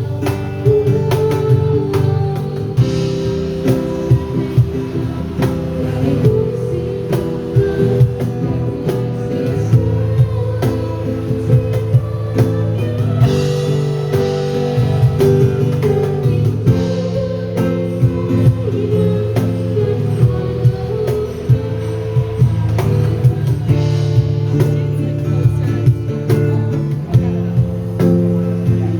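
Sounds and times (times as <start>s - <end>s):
drum kit beat: 0.0s - 28.9s
guitar: 0.0s - 28.9s.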